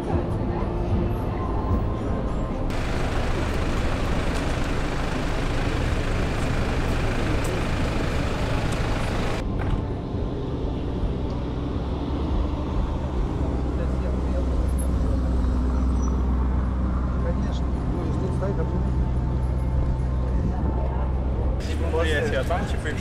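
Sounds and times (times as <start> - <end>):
low rumble of passing vehicles: 1.6 - 23.0.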